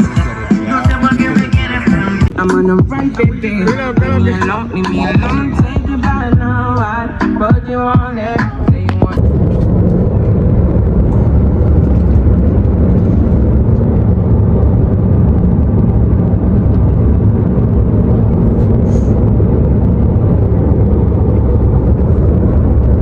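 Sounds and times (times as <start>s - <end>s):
low rumble of vehicle noise: 0.0s - 23.0s.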